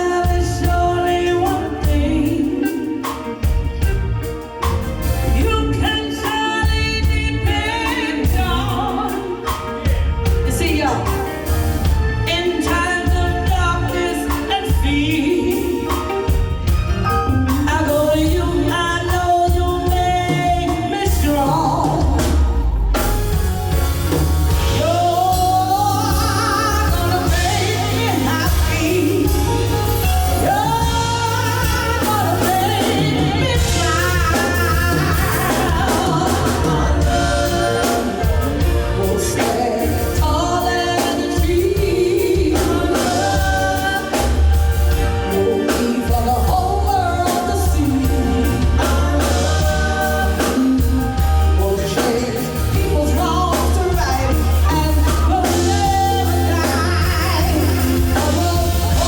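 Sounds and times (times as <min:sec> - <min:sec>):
person singing with vibrato: 0:00.0 - 0:23.0, 0:24.5 - 0:59.0
live band accompaniment: 0:00.0 - 0:59.0.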